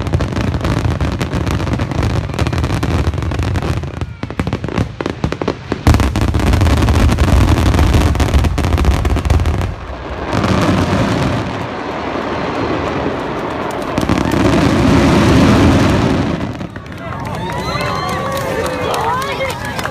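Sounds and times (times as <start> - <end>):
fireworks rumble and crackle: 0.0 - 19.9.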